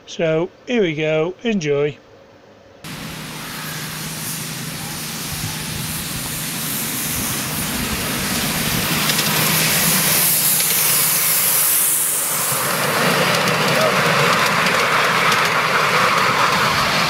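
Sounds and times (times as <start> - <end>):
miniature steam train running: 2.9 - 17.0.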